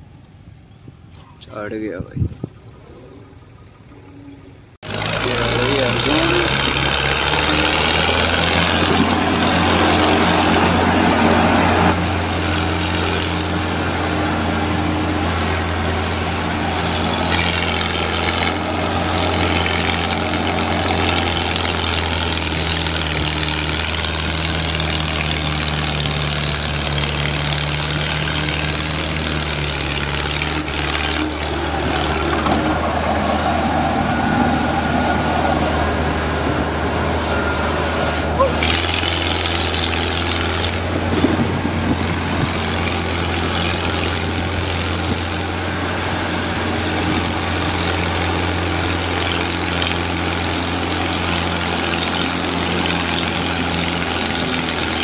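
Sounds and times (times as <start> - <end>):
tractor diesel engine running: 3.2 - 55.0.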